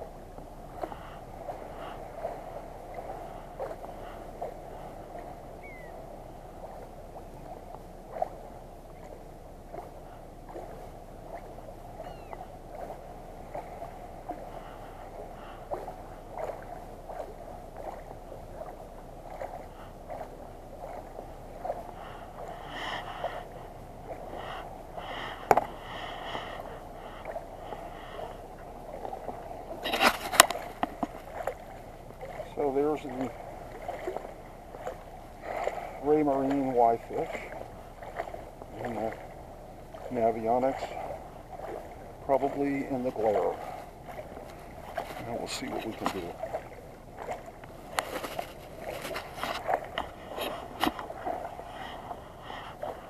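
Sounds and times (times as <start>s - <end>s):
water sloshing and gurgling: 0.0s - 53.0s.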